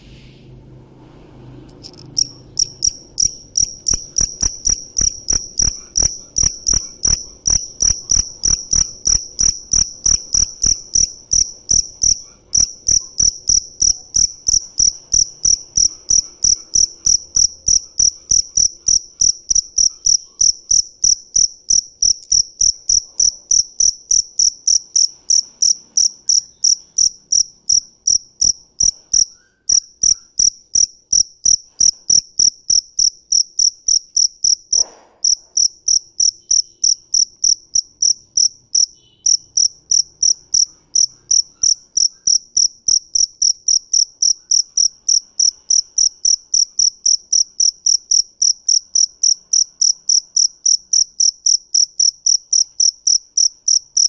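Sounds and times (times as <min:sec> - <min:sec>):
cricket chirping: 0:01.7 - 0:54.0.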